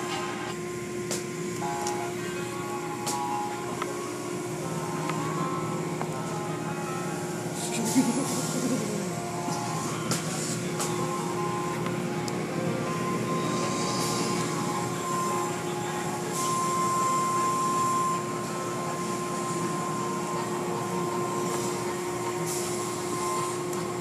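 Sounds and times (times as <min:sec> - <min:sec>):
car wash machinery humming: 0:00.0 - 0:24.0
high whine: 0:00.0 - 0:24.0.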